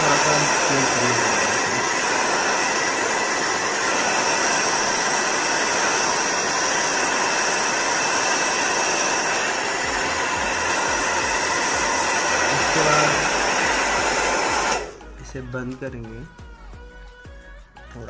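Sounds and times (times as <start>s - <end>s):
hair dryer blowing: 0.0s - 15.7s.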